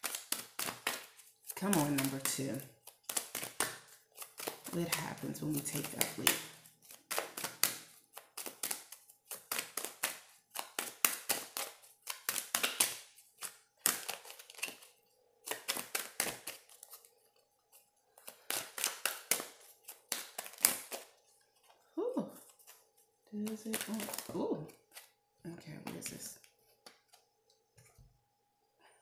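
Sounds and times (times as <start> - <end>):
cards being shuffled: 0.0 - 25.2.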